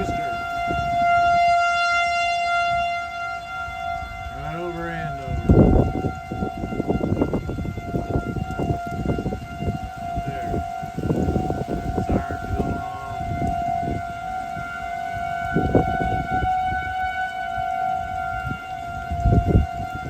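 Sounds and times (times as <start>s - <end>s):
warning siren steady tone: 0.0s - 20.0s.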